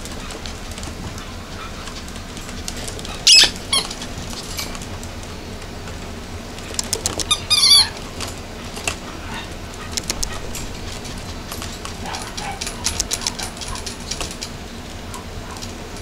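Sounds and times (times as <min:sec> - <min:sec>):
puppies yipping: 0:01.1 - 0:05.0, 0:06.6 - 0:16.0.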